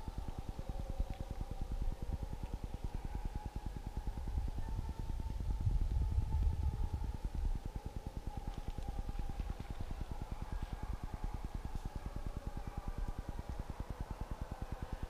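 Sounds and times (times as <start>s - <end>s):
faint steady high tone: 0.0s - 15.0s.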